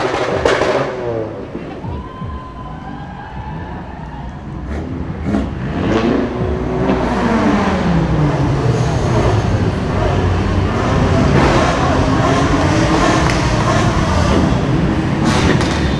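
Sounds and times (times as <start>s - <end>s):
car engine revving: 0.0s - 1.8s, 3.2s - 15.9s.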